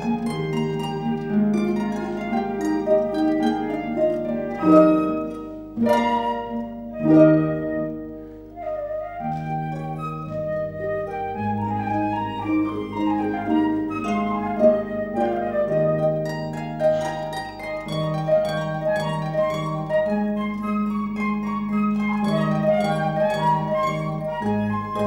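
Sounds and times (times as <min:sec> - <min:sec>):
flute melody: 0:00.0 - 0:25.0.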